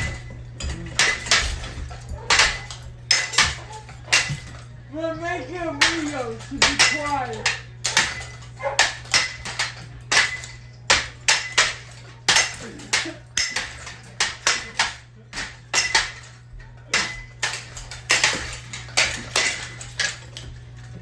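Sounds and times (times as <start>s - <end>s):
metal fan clanking when struck: 0.0s - 21.0s
steady low hum: 0.0s - 21.0s.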